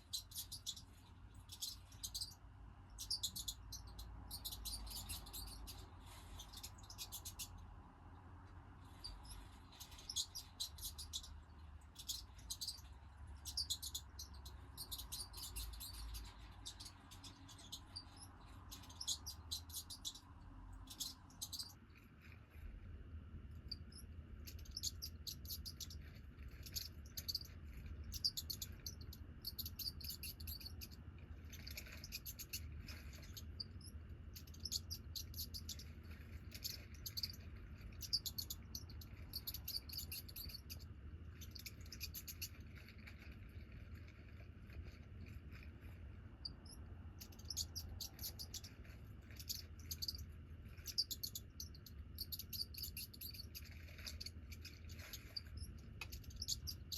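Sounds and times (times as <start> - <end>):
high-pitched chirps and squeaks: 0.0 - 7.9, 8.6 - 22.7, 23.5 - 56.9.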